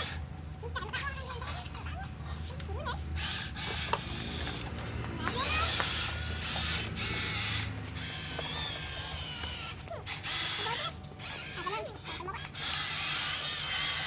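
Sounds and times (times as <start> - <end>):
toy truck motor whirring: 0.0 - 0.3, 2.4 - 14.0.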